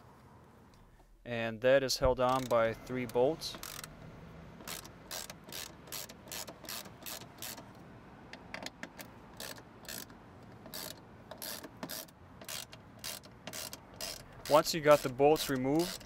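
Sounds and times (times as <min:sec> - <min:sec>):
socket ratchet clicking: 0:02.2 - 0:16.0.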